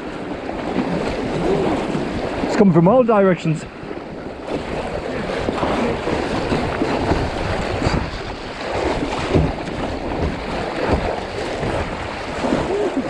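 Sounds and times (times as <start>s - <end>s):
wind on microphone: 0.0s - 2.6s, 3.7s - 13.0s
river water rushing and splashing: 0.0s - 13.0s.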